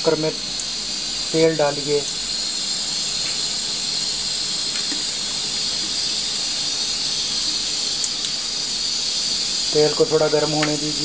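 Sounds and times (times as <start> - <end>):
gas stove burner hissing: 0.0 - 11.0.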